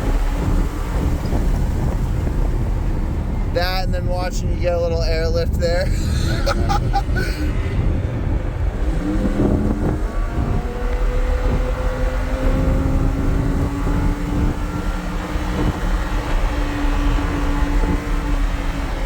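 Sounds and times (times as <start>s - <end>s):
road and wind noise: 0.0s - 19.0s
sports car engine pulling: 0.0s - 19.0s.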